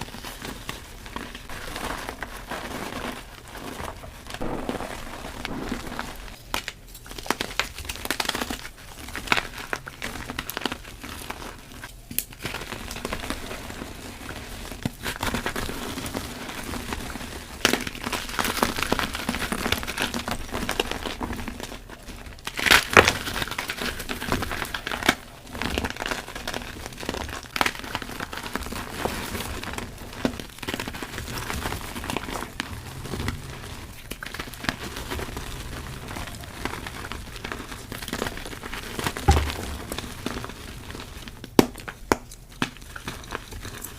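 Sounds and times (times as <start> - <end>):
chalk crunching and crackling: 0.0 - 43.9.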